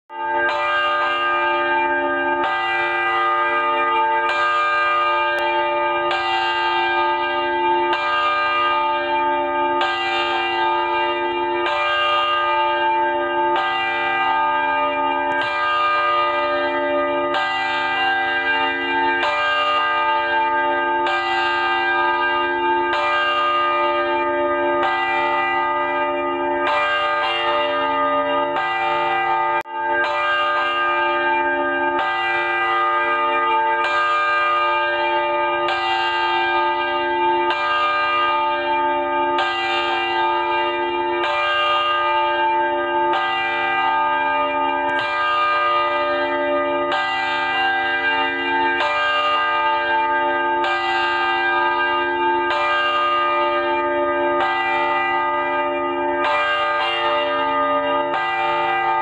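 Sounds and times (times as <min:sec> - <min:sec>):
church bell tolling: 0:00.1 - 0:59.0.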